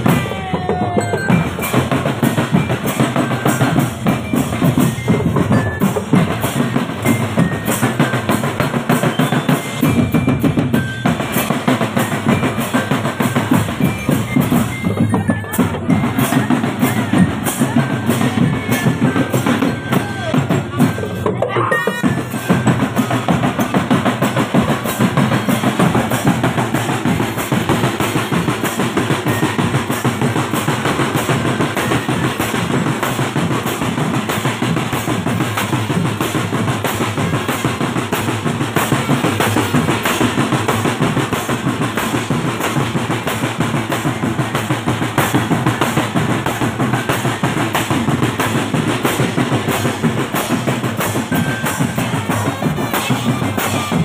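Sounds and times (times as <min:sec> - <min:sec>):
marching drum band playing: 0:00.0 - 0:54.0.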